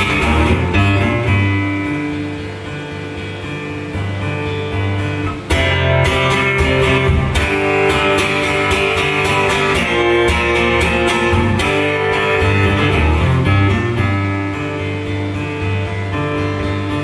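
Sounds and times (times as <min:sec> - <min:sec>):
amplified acoustic guitar strumming: 0:00.0 - 0:17.0.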